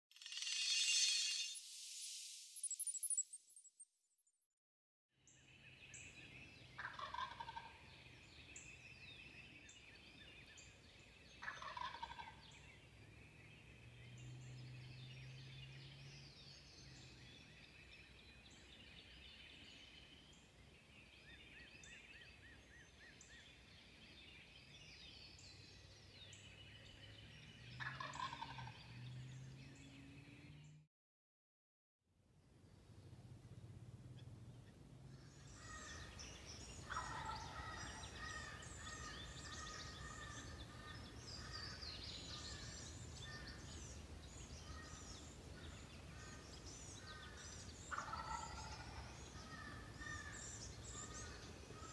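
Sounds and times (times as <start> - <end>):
songbirds singing: 5.2 - 30.8, 32.7 - 51.9.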